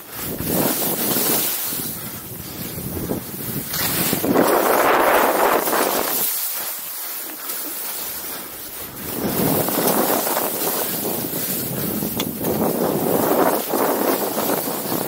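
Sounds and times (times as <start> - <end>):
wind rushing over microphone: 0.0 - 6.3, 8.6 - 15.0
skis scraping over snow: 0.0 - 15.0.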